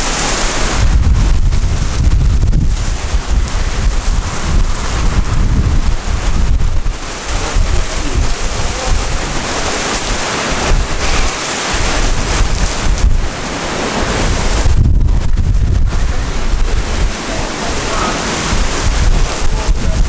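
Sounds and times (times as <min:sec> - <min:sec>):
heavy rain: 0:00.0 - 0:20.0
wind buffeting microphone: 0:00.0 - 0:20.0.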